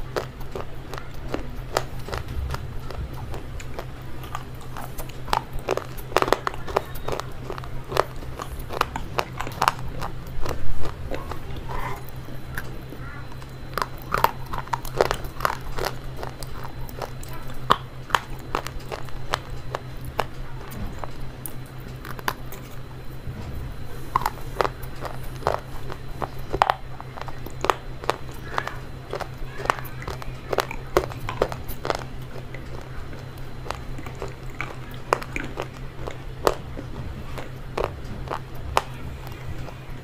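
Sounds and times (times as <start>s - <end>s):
crunching and chewing: 0.0s - 40.0s
steady low hum: 0.0s - 40.0s.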